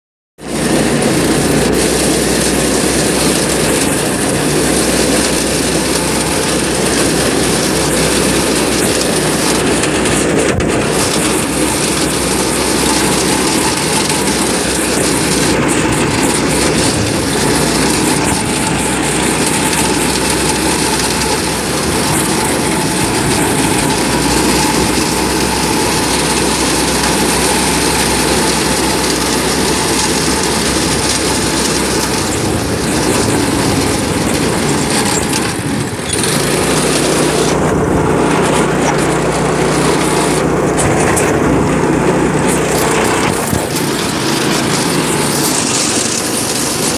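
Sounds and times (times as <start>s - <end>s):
small go-kart engine running: 0.4s - 46.9s
wind and tyres on dirt: 0.4s - 46.9s.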